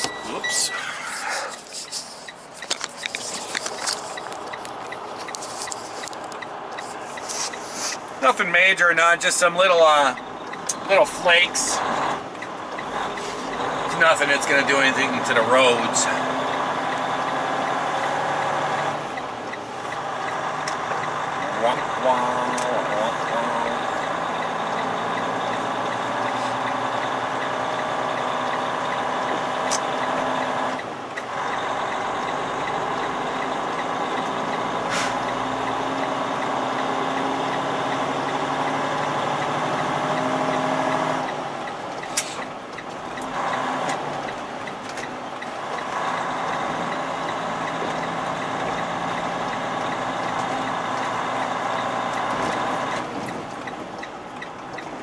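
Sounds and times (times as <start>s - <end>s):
diesel truck engine: 0.0s - 55.0s.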